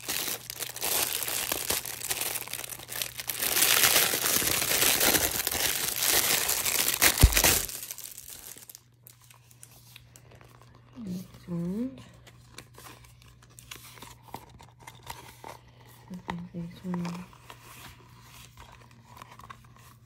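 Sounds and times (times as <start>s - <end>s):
packaging crinkling: 0.0s - 20.0s.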